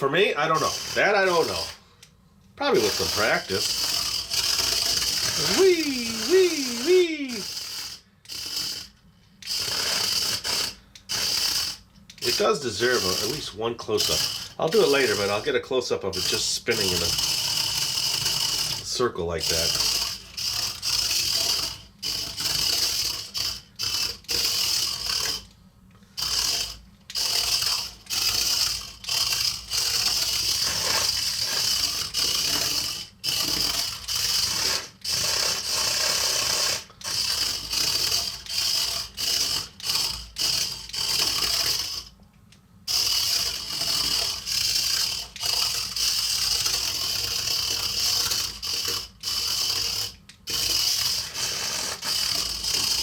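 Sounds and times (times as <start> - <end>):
toy electric motors whirring: 0.0 - 42.2, 42.8 - 53.0.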